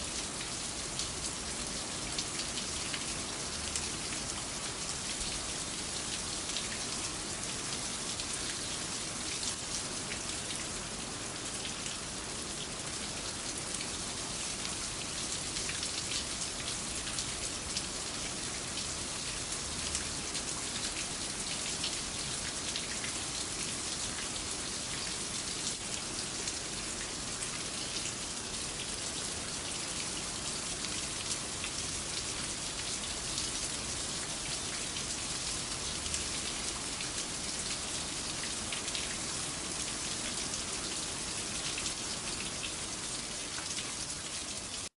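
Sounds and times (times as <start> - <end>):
rain on a hard surface: 0.0 - 44.9.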